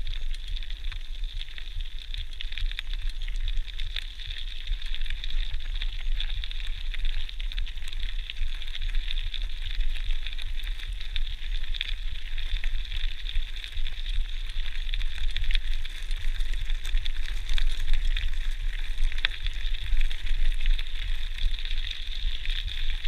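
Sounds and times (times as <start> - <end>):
stones clicking and bike rattling: 0.0 - 23.0.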